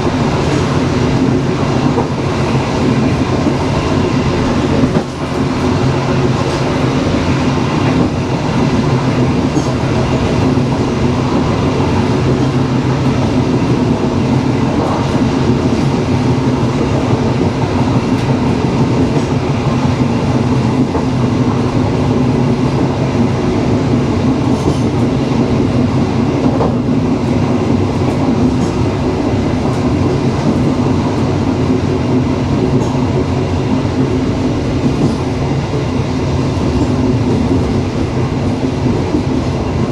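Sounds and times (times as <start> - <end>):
passenger train running on track: 0.0 - 39.9.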